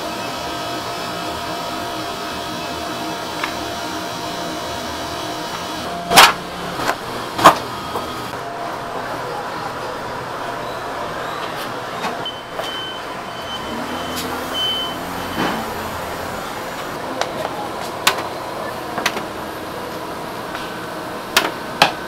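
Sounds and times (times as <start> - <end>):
kitchen hum: 0.0 - 22.0.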